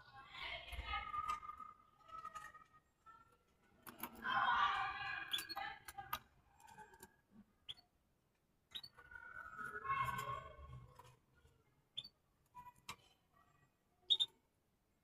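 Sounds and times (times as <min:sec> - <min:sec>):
cage birds chirping: 0:00.7 - 0:15.0.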